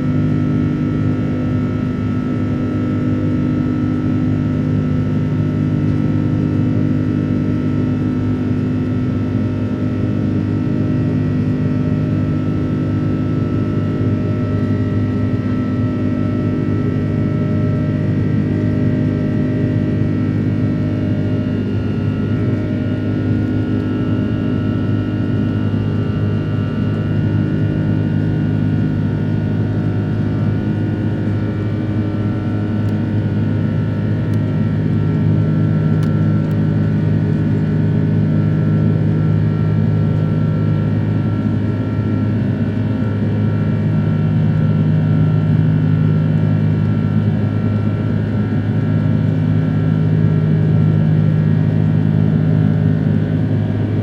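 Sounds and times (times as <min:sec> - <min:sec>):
high engine whines: 0:00.0 - 0:54.0
jet engines droning: 0:00.0 - 0:54.0.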